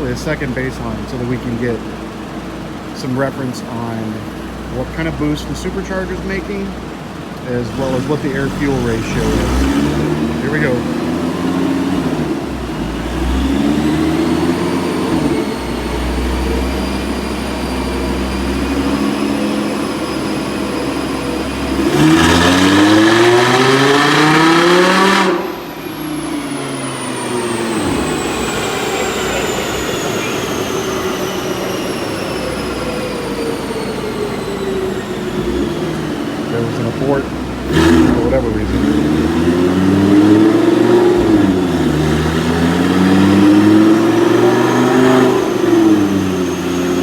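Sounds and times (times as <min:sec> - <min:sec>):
supercharged engine revving: 0:00.0 - 0:47.0
supercharger whine: 0:00.0 - 0:47.0.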